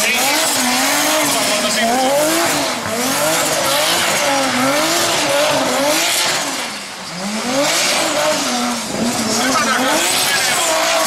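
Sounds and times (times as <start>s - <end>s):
car engine revving: 0.0s - 11.0s
tyres sliding on wet tarmac: 0.0s - 11.0s.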